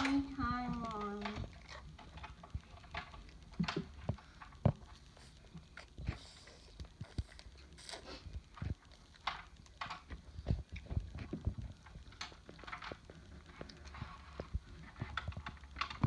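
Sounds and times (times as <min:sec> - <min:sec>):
chewing and crunching lettuce: 0:00.1 - 0:16.0.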